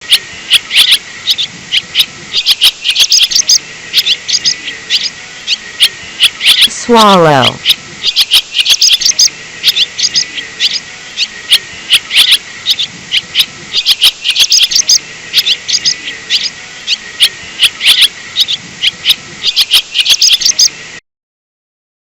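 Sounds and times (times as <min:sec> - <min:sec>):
swallow twittering: 0:00.0 - 0:20.8
steady hiss: 0:00.0 - 0:21.0.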